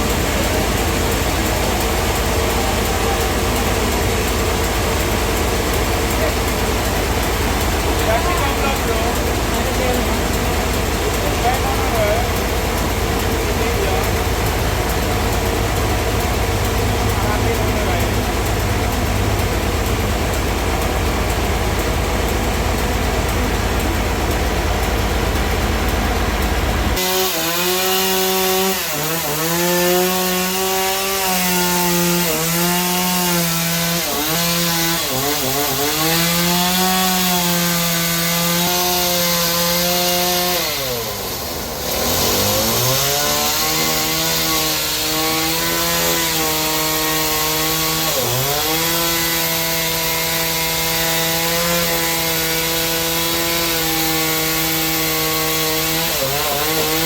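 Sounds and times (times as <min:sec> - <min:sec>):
sawmill engine bogging in cut: 0:00.0 - 0:57.0.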